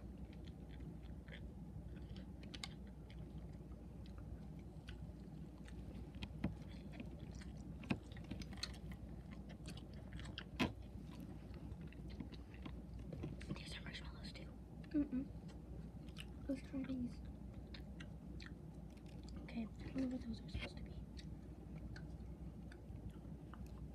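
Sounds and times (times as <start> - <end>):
people chewing food: 0.0 - 23.9.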